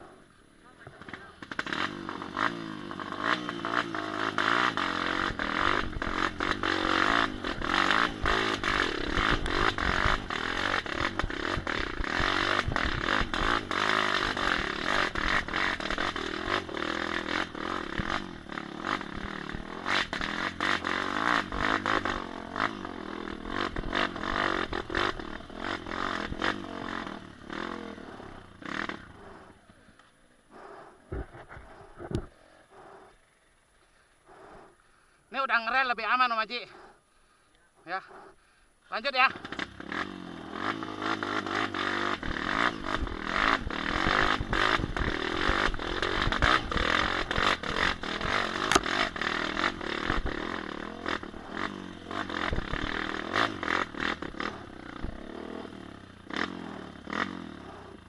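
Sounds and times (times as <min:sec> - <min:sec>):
dirt bike engine revving: 0:00.0 - 0:33.0, 0:38.9 - 0:58.0.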